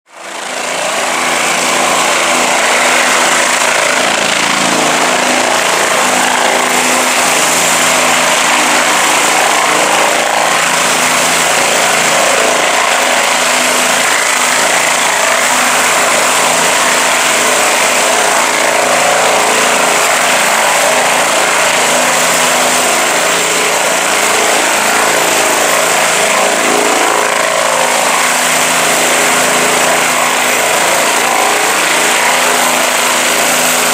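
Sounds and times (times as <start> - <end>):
helicopter engine and rotor: 0.1 - 33.9.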